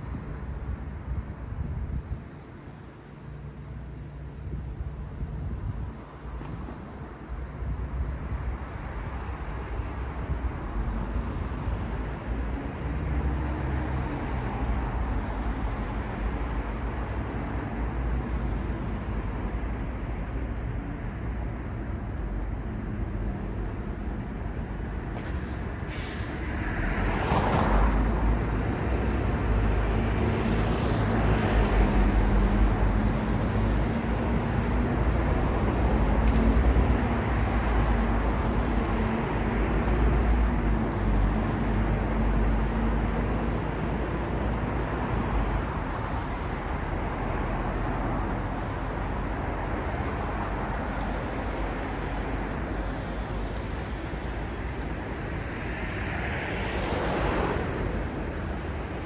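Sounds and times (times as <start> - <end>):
traffic rumble: 5.6 - 59.0.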